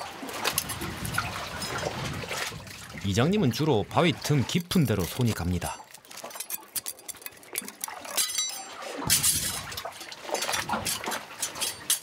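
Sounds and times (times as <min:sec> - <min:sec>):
seawater washing among rocks: 0:00.0 - 0:12.0.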